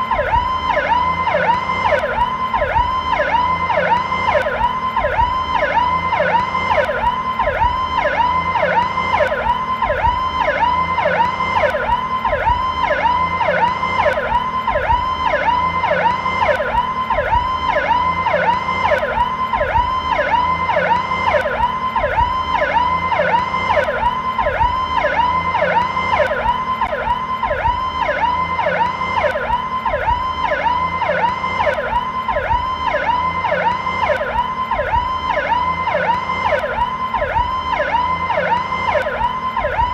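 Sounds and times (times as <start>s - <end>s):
police siren: 0.0s - 39.9s.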